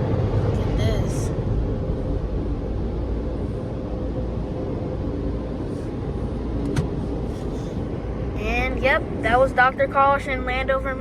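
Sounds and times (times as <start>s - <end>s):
car wash dryer blowers rumbling: 0.0s - 11.0s
faint steady hum: 0.0s - 11.0s.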